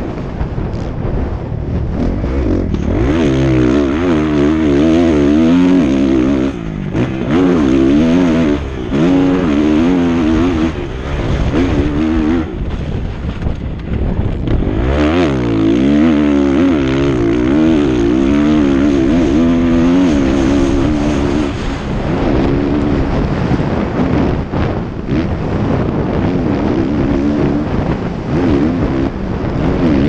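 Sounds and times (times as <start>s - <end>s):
rough road noise: 0.0s - 30.0s
motocross bike engine revving: 1.7s - 30.0s.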